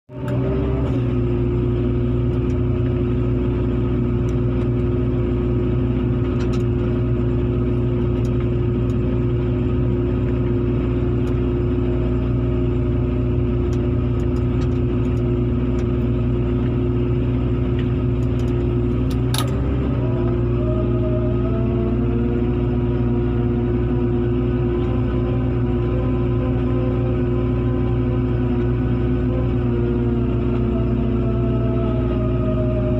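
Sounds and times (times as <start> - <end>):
heavy diesel engine droning: 0.1 - 32.9.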